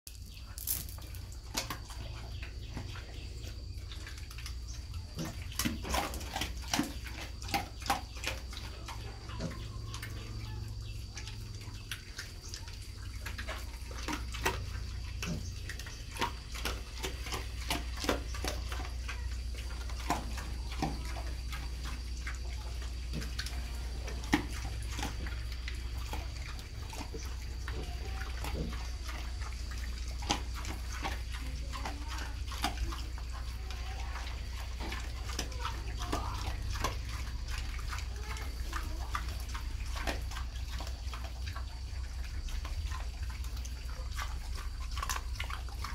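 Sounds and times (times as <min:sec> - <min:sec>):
pigs crunching and chewing: 0:00.1 - 0:45.9.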